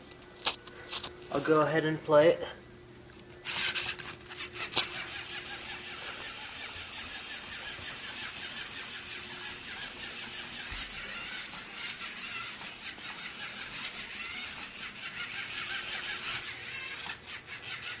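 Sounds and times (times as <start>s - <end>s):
servo motors whirring: 3.4s - 18.0s.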